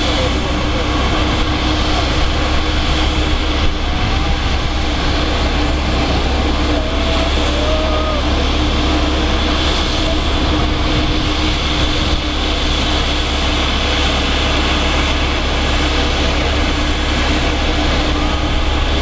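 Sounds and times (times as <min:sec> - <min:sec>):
jet engines with high whine: 0:00.0 - 0:19.0.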